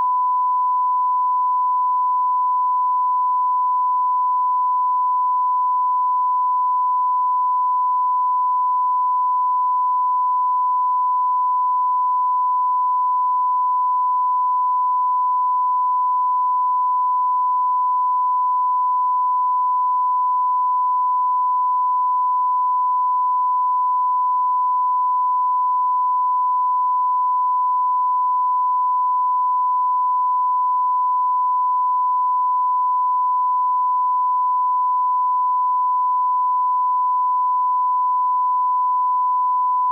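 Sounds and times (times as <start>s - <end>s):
censor bleep tone: 0.0s - 39.9s.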